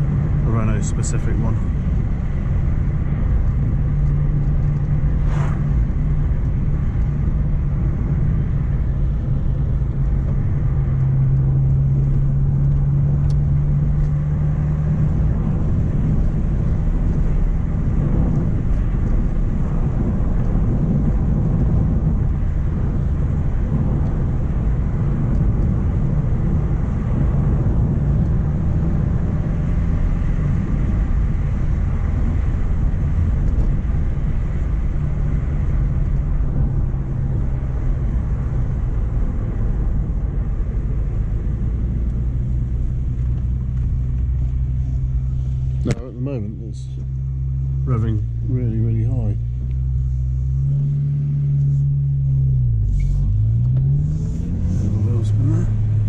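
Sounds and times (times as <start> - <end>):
car engine drone: 0.0 - 56.0
road and tyre rumble: 0.0 - 56.0.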